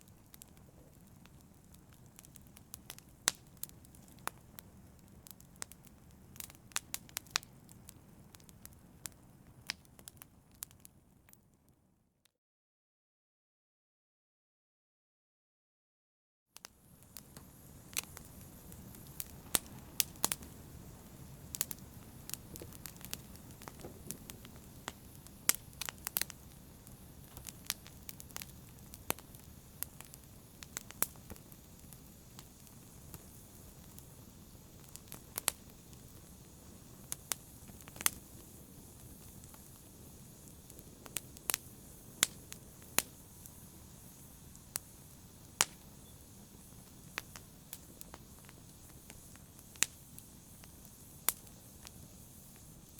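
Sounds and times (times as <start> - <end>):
wood fire crackling: 0.0 - 11.5, 16.6 - 52.9.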